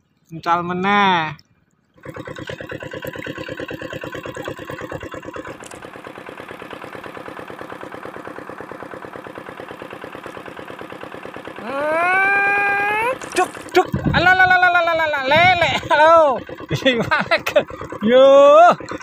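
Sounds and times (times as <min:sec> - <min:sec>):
small engine idling: 0:02.0 - 0:19.0.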